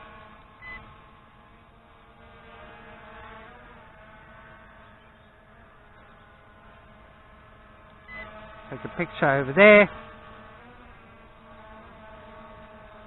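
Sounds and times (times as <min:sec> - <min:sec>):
quadcopter buzzing: 0:00.0 - 0:13.0.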